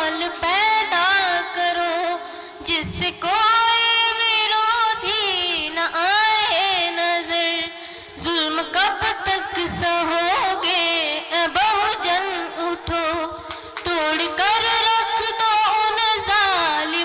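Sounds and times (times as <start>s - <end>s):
high voice singing: 0.0s - 17.0s.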